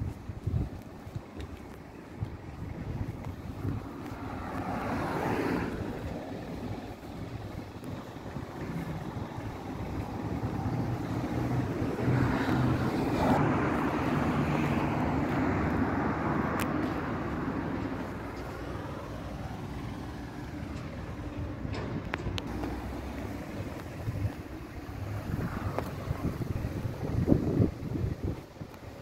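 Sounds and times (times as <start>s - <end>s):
motor vehicle passing by: 3.3s - 21.4s, 22.5s - 28.4s.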